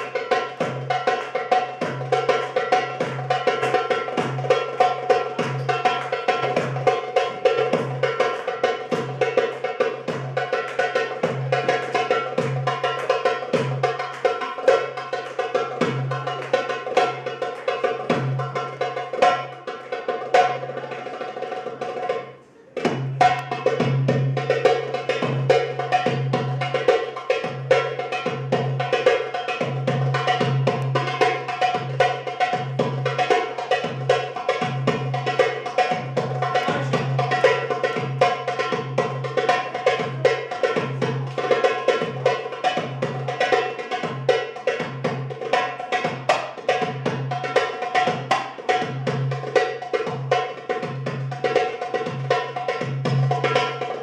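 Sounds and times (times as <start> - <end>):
goblet drum solo: 0.0 - 54.0.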